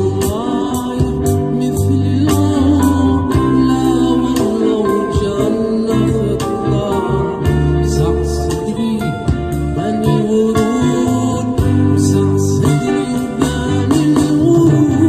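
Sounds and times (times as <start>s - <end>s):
drums keeping a beat: 0.0s - 15.0s
keyboard lines: 0.0s - 15.0s
man singing into a microphone: 0.0s - 15.0s.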